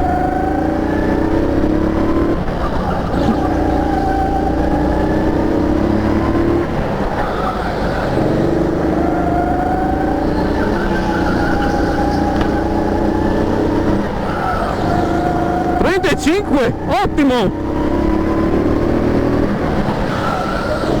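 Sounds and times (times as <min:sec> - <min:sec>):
go-kart engine revving: 0:00.0 - 0:21.0.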